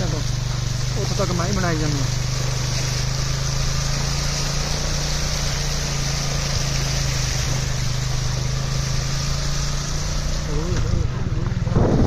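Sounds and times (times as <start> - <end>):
motorcycle engine running: 0.0 - 12.0
water splashing from wheel: 0.0 - 12.0.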